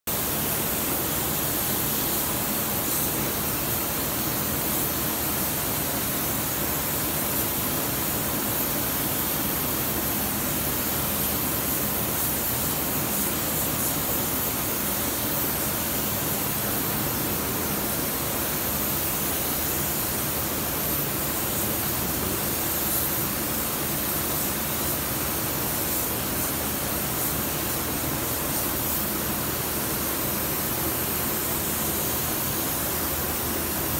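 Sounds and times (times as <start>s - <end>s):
spray gun air hiss: 0.1s - 33.9s.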